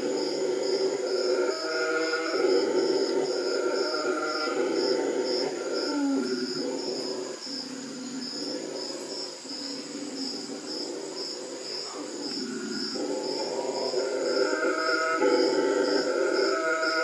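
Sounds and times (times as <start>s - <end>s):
high insect trill: 0.0s - 17.0s
howler monkeys roaring: 0.0s - 17.0s.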